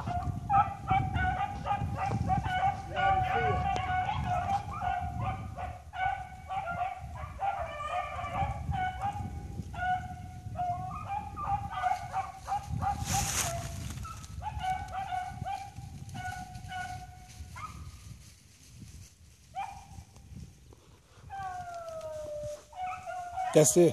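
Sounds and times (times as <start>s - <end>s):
hounds baying: 0.0s - 17.9s, 19.6s - 20.0s, 21.2s - 23.9s.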